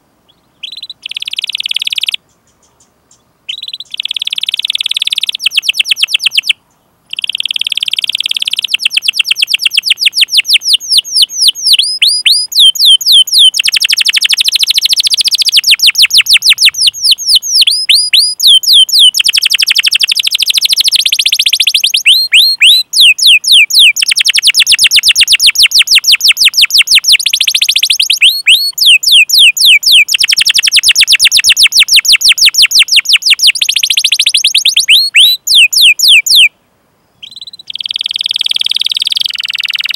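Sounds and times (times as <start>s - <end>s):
canary singing: 0.3s - 36.5s, 37.2s - 39.9s.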